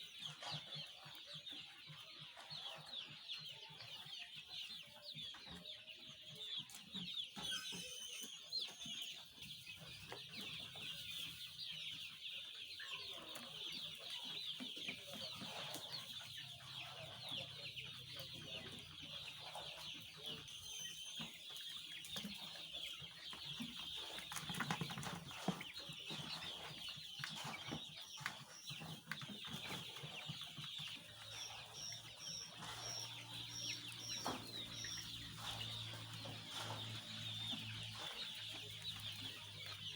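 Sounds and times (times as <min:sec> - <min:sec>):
chicks chattering: 0:00.0 - 0:39.9.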